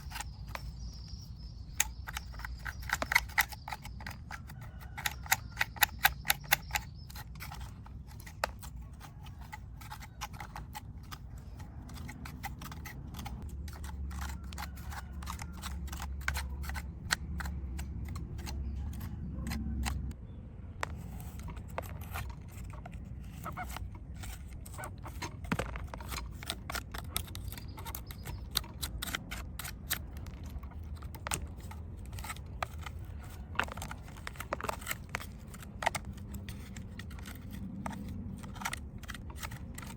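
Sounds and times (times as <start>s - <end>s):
small clicks and light scrapes: 0.0s - 39.9s.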